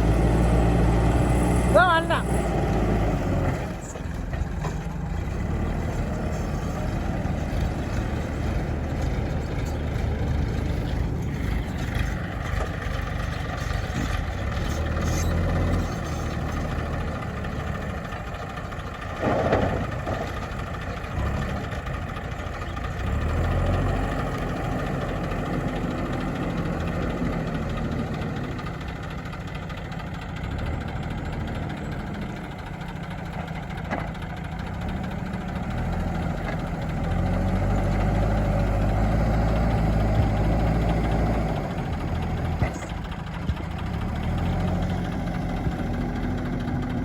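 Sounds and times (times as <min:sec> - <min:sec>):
earthmover engine rumbling: 0:00.0 - 0:47.0.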